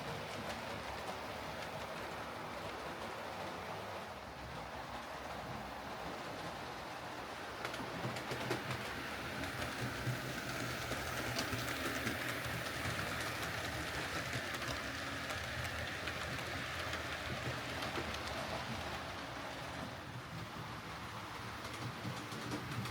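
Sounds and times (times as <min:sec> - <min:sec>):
wheels ticking on rails: 0:00.0 - 0:22.9.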